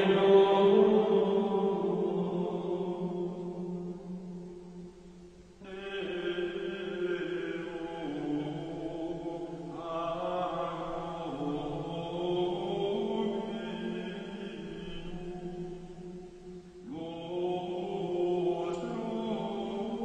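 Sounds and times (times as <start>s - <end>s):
slow sung chant: 0.0s - 20.0s.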